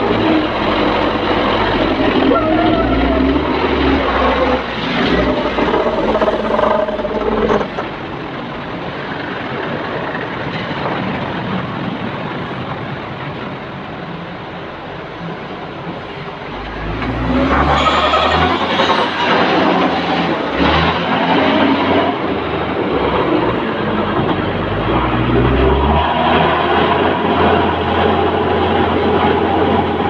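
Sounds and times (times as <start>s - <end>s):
dump trucks driving past: 0.0s - 30.0s
wheel loader engine: 0.0s - 30.0s.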